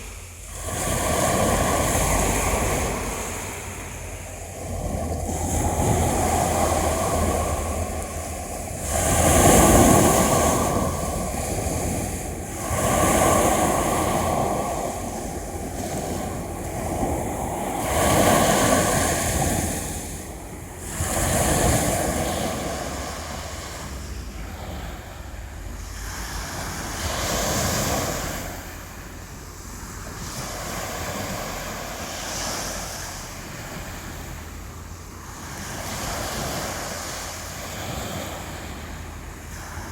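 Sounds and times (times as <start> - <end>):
sea waves washing onto shore: 0.0 - 39.9
wind rumbling on microphone: 0.0 - 39.9.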